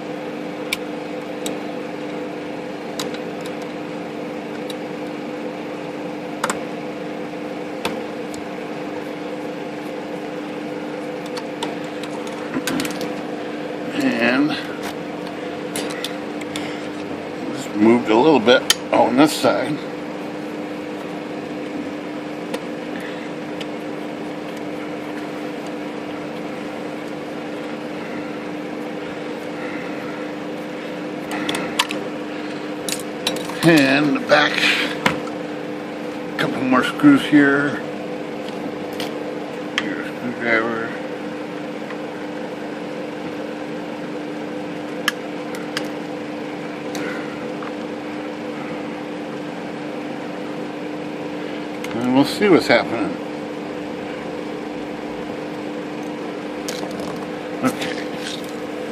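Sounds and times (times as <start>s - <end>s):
steady background hum: 0.0s - 58.9s.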